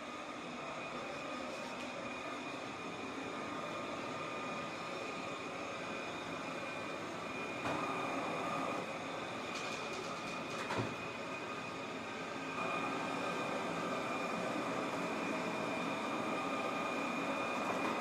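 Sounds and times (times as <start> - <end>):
robot vacuum whirring: 1.4 - 18.0.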